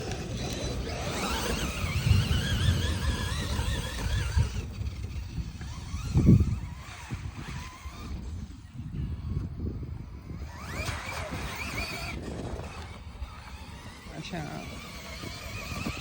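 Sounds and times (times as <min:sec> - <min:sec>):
toy truck motor whining: 0:00.0 - 0:16.0.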